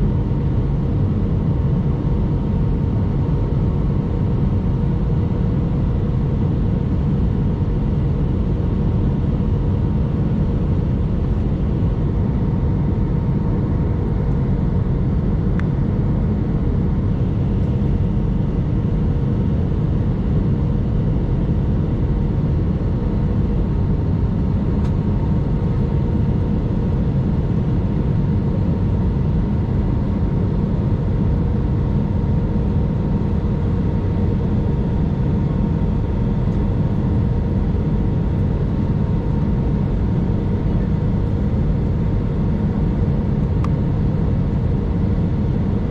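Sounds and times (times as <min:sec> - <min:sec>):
airliner cabin rumble: 0:00.0 - 0:45.9
faint constant hum: 0:00.0 - 0:45.9.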